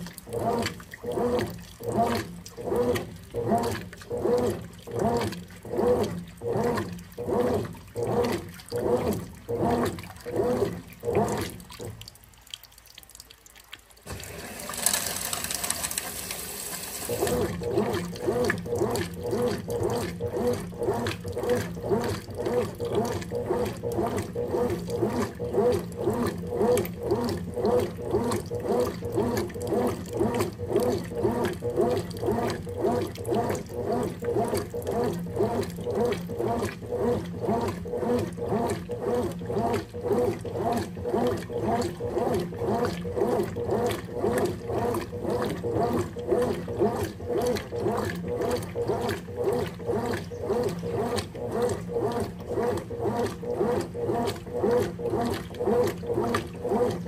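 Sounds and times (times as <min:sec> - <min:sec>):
washing machine agitating water: 0:00.0 - 0:57.0.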